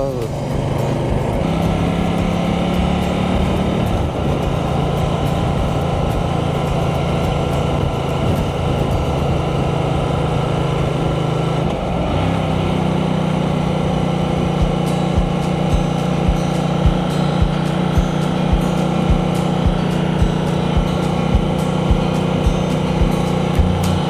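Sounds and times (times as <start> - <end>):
motorcycle engine running: 0.0 - 24.0
wind noise: 0.0 - 24.0.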